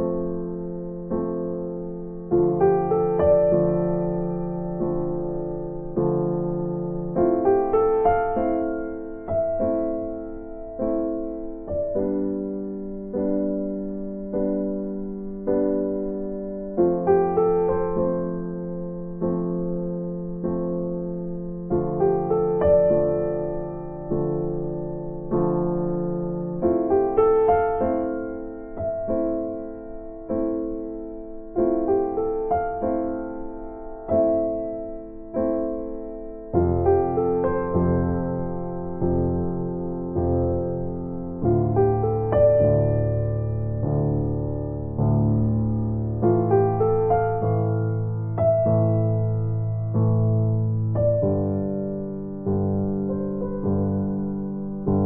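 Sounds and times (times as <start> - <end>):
slow piano music: 0.0 - 55.0.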